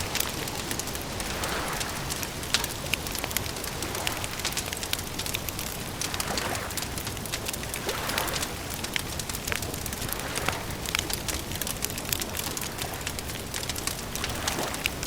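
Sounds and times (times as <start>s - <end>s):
wood campfire crackling: 0.0s - 15.0s.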